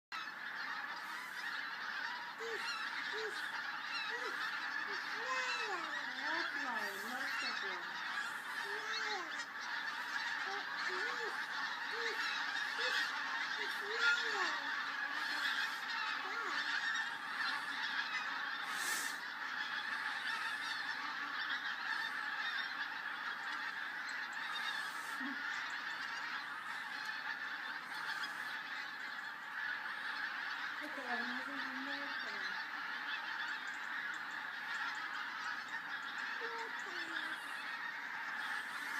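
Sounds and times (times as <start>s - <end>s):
geese honking in flight: 0.1s - 38.9s
louder lower goose calls: 0.2s - 38.9s.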